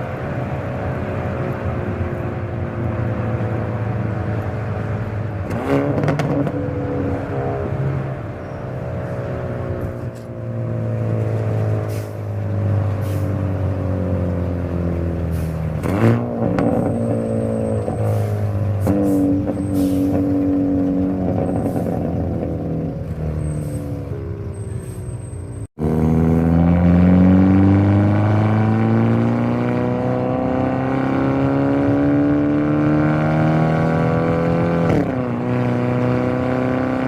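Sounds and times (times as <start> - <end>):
car engine and exhaust revving: 0.0 - 37.0.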